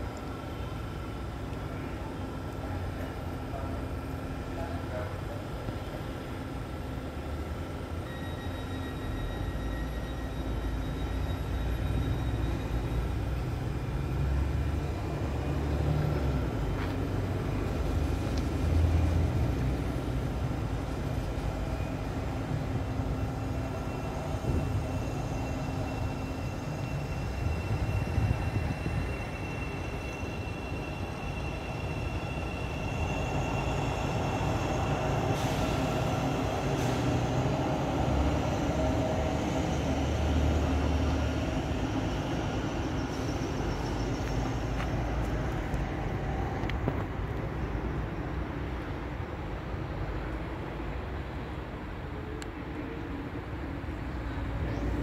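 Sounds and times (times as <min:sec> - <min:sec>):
train wheels rumbling: 0:00.0 - 0:51.6.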